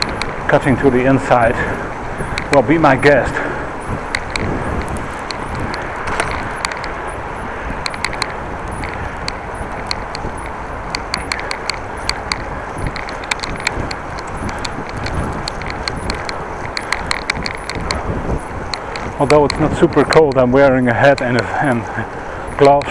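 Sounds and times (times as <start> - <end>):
bicycle clicks and ticks: 0.0 - 22.9
wind and road noise: 0.0 - 22.9.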